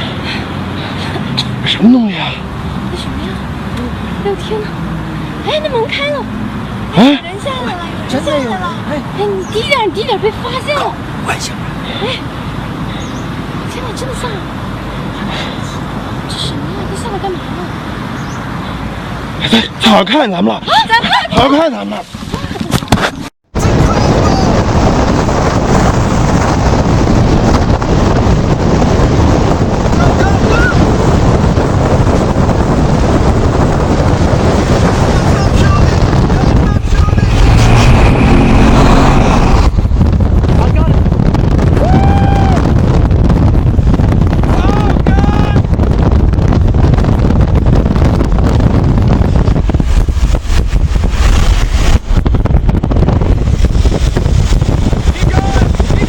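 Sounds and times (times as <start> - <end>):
wind blowing across microphone: 0.0 - 56.0.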